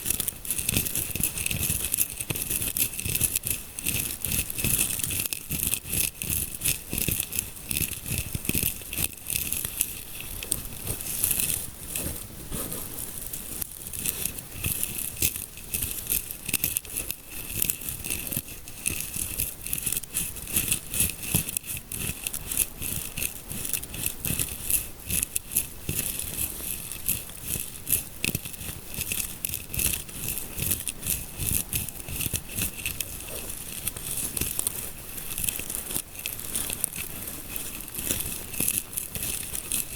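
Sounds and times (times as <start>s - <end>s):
fingers scratching scalp: 0.0s - 39.9s.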